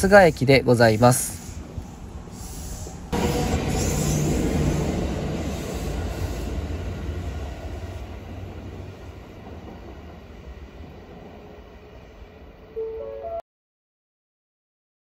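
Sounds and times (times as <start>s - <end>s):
electric train pulling away: 0.0s - 13.4s.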